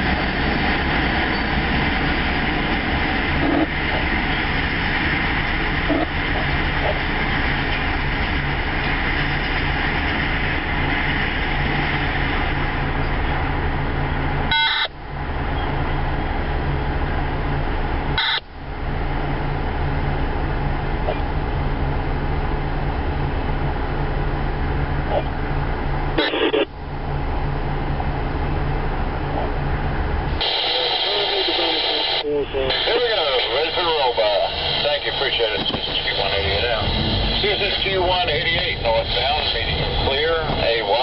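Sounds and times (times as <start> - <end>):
freight train rolling past: 0.0 - 41.0.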